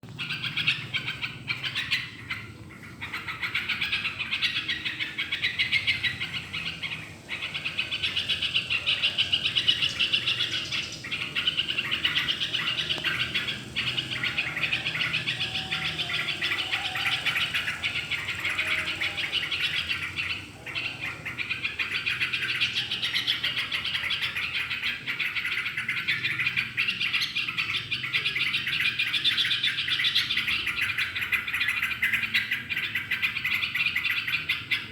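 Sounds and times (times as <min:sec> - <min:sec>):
bird singing fast chirps: 0:00.0 - 0:34.9.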